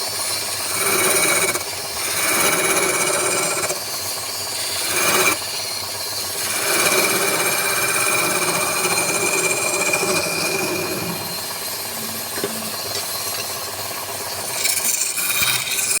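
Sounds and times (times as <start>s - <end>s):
lathe turning wood: 0.0s - 16.0s.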